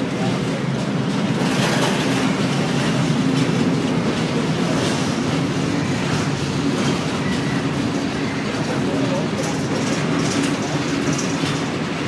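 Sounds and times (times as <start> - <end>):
freight train wheels rumbling: 0.0 - 12.0
wagons clattering: 0.0 - 12.0.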